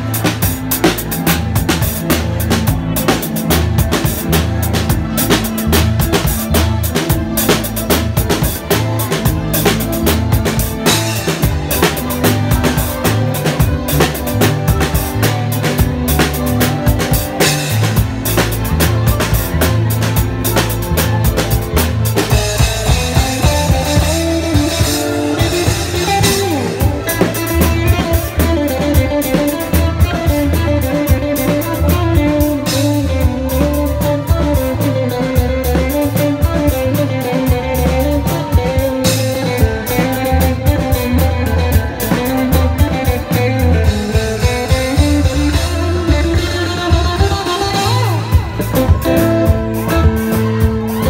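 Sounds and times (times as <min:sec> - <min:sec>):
drums: 0:00.0 - 0:51.0
electric guitar: 0:00.0 - 0:51.0
keyboard: 0:00.0 - 0:51.0
pulsing bass line: 0:00.0 - 0:51.0.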